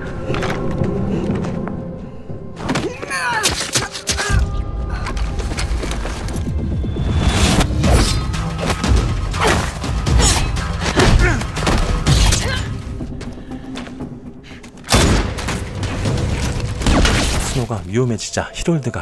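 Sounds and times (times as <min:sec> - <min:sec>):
film music: 0:00.0 - 0:19.0.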